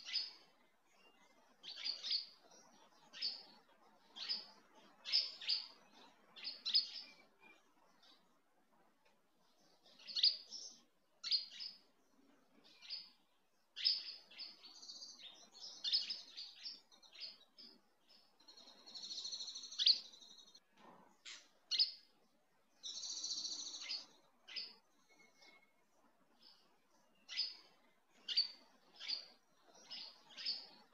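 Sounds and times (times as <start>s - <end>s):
birds chirping: 0.0s - 8.4s, 9.4s - 20.6s, 22.7s - 30.9s.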